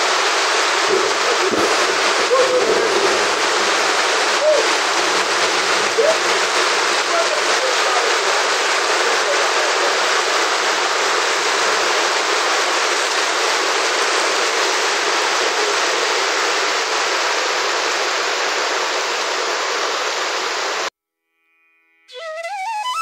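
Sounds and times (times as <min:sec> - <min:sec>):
rushing floodwater and downpour: 0:00.0 - 0:20.9.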